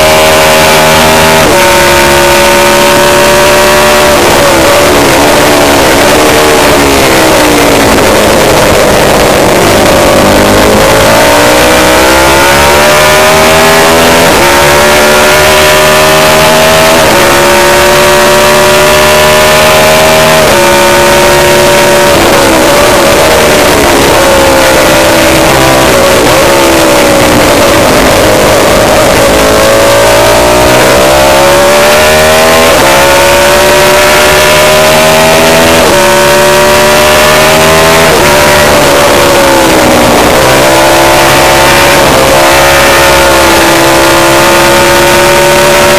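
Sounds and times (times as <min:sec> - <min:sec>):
racing motorcycle engine revving: 0:00.0 - 0:45.9.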